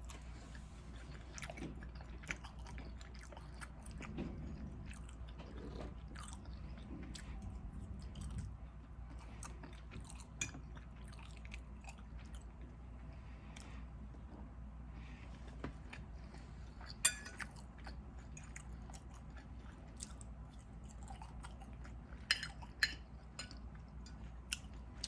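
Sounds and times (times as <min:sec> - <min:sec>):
person chewing food: 0:00.0 - 0:14.5, 0:15.1 - 0:25.0.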